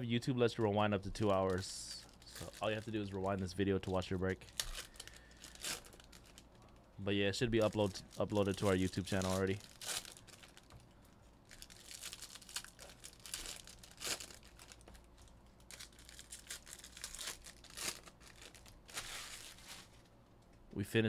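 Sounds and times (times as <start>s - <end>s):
foil crackles: 1.1s - 6.5s, 7.5s - 10.8s, 11.5s - 20.0s
foil wrappers tearing and crinkling: 1.4s - 6.5s, 7.5s - 10.8s, 11.5s - 20.0s.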